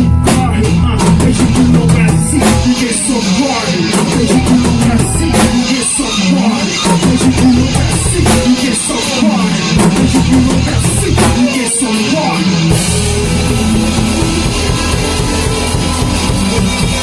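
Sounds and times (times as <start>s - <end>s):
bass line: 0.0s - 17.0s
drum kit beat: 0.0s - 17.0s
guitar: 0.0s - 17.0s.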